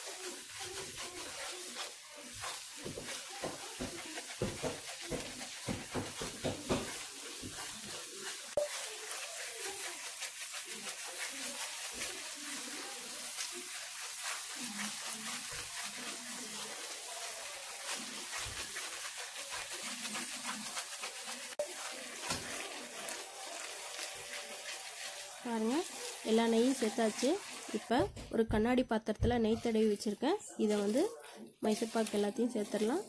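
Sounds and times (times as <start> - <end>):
batter sizzling in hot fat: 0.0 - 28.2, 29.0 - 33.0
spatula scraping pan: 0.0 - 28.2, 29.2 - 33.0.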